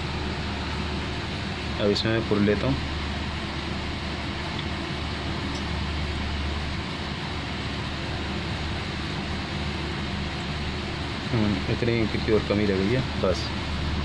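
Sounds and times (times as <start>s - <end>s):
fan running: 0.0s - 14.0s.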